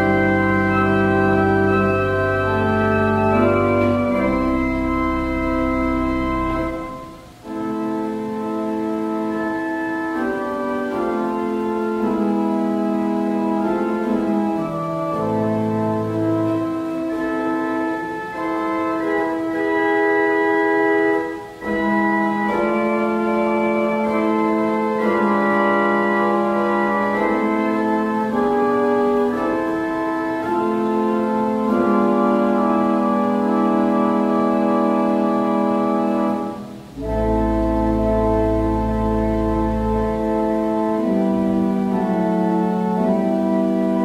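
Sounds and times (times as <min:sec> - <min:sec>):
deep bass organ note: 0:00.0 - 0:44.0
pipe organ chords: 0:00.0 - 0:44.0.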